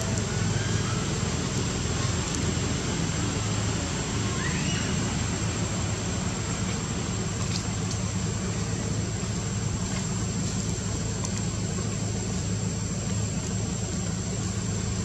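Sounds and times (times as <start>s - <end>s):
low engine-like drone: 0.0s - 15.0s.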